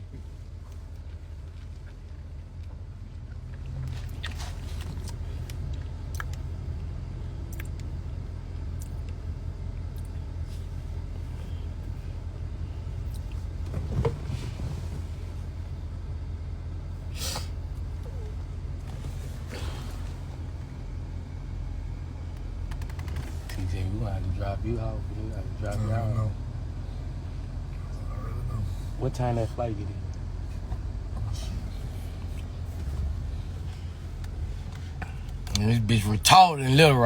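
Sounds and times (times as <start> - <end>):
car rumble: 0.0 - 37.0.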